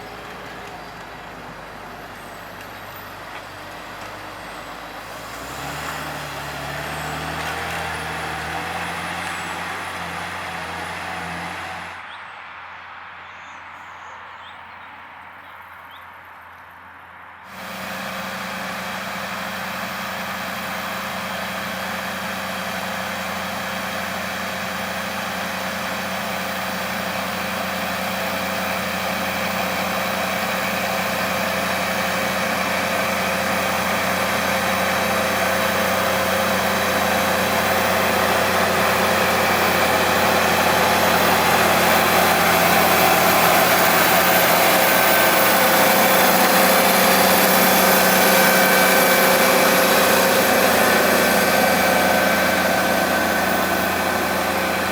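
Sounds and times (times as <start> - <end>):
tractor engine running under load: 0.0 - 12.0, 17.4 - 54.9.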